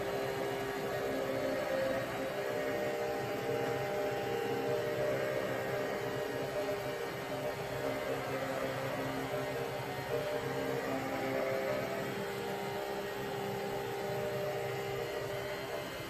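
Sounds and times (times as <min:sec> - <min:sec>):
electric motor whirring hum: 0:00.0 - 0:16.0.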